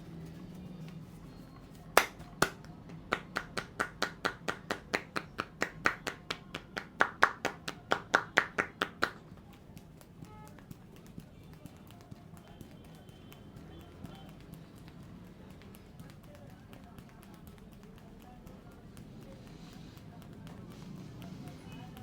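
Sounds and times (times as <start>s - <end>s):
hands slapping in massage: 0.0s - 22.0s.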